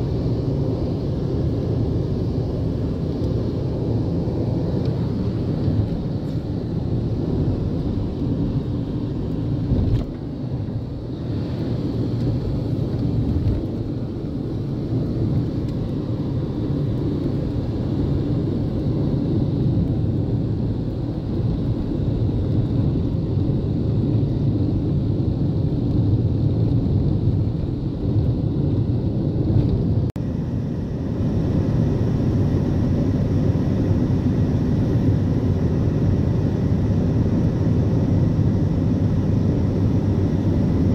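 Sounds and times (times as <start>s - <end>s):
road and wind noise in car: 0.0s - 40.9s.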